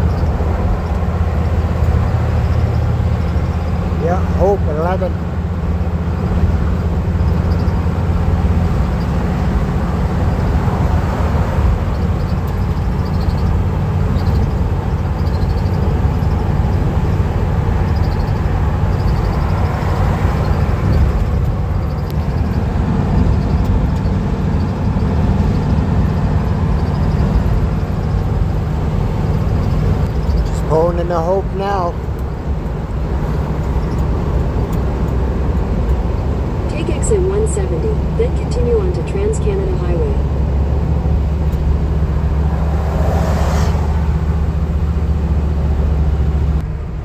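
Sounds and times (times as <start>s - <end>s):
van driving at highway speed: 0.0s - 47.0s.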